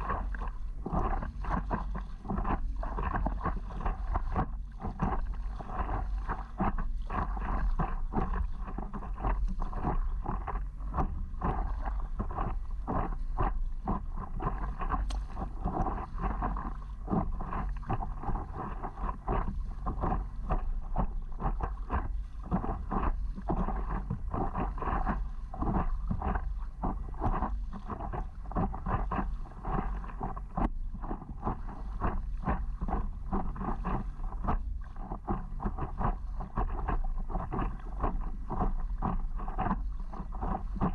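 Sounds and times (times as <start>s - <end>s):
water splashing against paddleboard: 0.0s - 40.9s
wind rumble on microphone: 0.0s - 40.9s.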